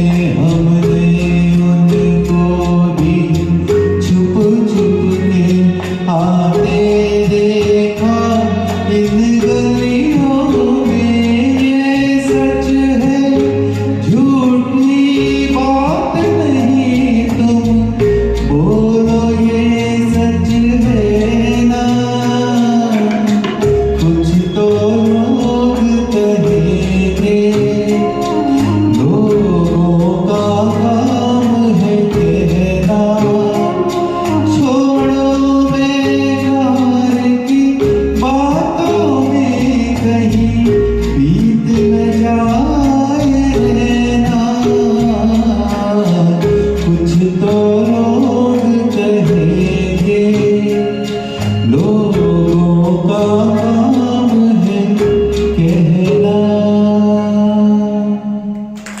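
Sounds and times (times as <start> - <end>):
light regular percussion: 0.0 - 57.5, 58.6 - 59.0
bass chords: 0.0 - 59.0
person singing: 0.0 - 59.0.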